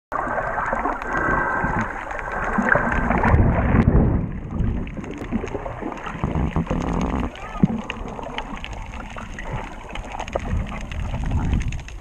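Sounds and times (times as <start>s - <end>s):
low underwater rumble: 0.1s - 12.0s
underwater rushing water: 0.1s - 12.0s.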